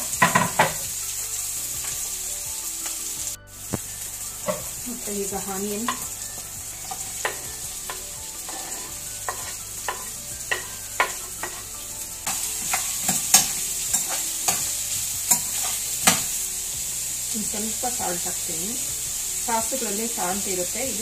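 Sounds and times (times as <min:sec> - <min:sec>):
spatula scraping a pan: 0:00.0 - 0:17.3
vegetables sizzling in hot oil: 0:00.0 - 0:21.0.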